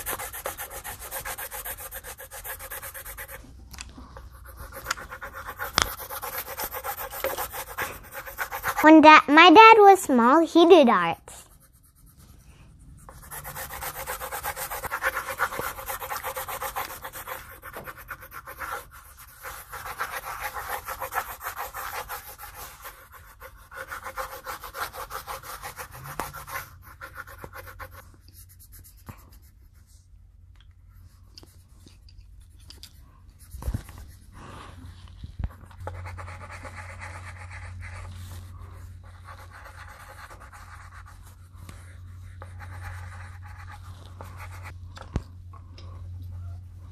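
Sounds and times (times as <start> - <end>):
pencils scratching on paper: 0.0 - 30.0, 31.0 - 44.8.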